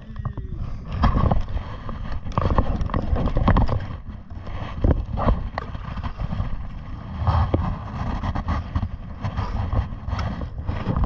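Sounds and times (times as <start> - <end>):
knocks and clatter on wooden boat: 0.0 - 11.0
low rumble of wind and water: 0.0 - 11.0.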